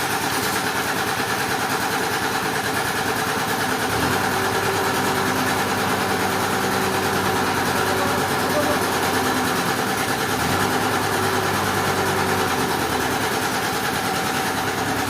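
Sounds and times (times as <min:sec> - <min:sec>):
machinery engine running: 0:00.0 - 0:15.0.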